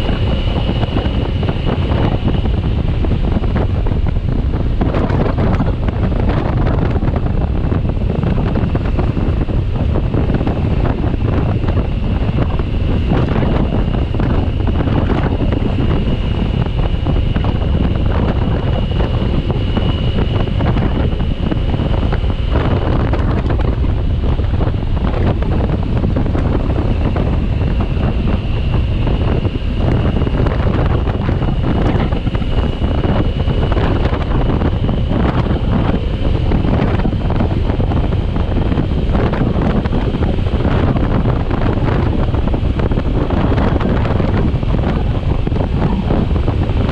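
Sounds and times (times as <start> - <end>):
faint high whine: 0.0 - 46.9
wind buffeting microphone: 0.0 - 46.9.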